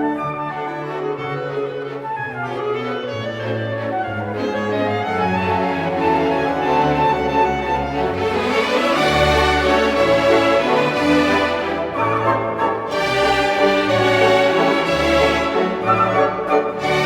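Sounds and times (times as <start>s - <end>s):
orchestral strings holding notes: 2.8s - 17.0s.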